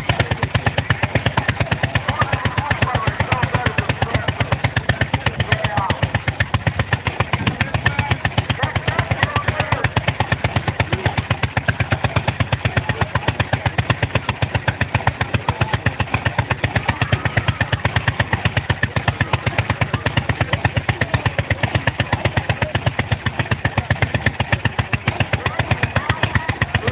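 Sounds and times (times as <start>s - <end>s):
chainsaw engine running slowly: 0.0s - 26.9s.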